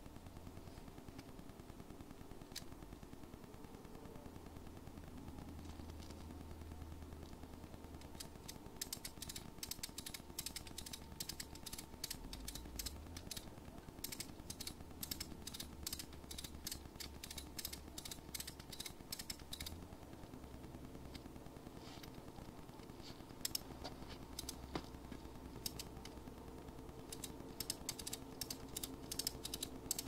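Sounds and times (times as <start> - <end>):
low steady hum: 0.0 - 30.0
sharp clicks: 0.0 - 30.0.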